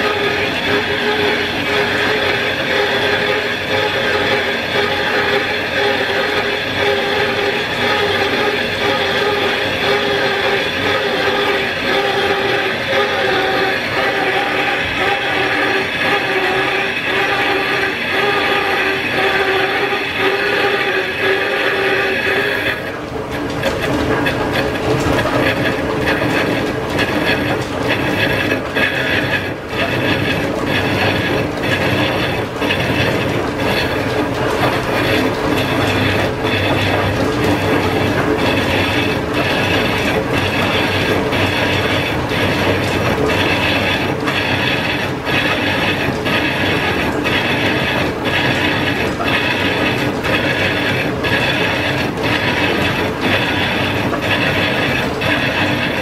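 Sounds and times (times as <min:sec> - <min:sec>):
gears and belt clattering: 0:00.0 - 0:56.0
metal lathe cutting: 0:00.0 - 0:56.0.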